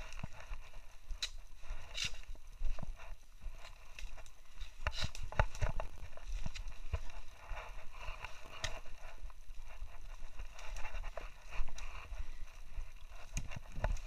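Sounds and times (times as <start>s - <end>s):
brush scraping: 0.0s - 14.0s
footsteps on rocks: 0.0s - 14.0s.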